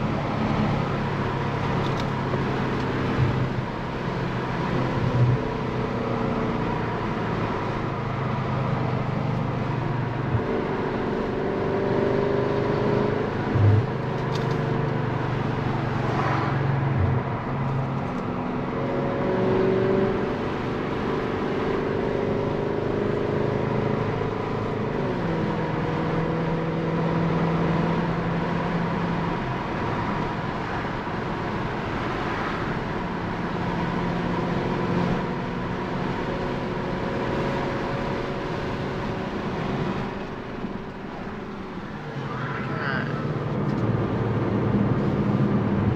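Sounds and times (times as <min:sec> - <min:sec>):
car engine running: 0:00.0 - 0:21.1, 0:21.7 - 0:45.9
road and tyre noise: 0:00.0 - 0:45.9.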